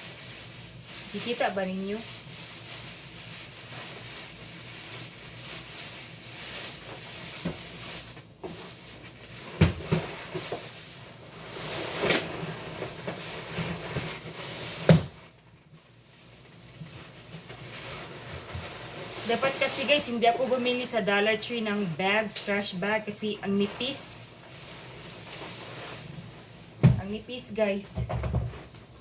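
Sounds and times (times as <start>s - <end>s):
plastic bags rustling: 0.0s - 29.0s.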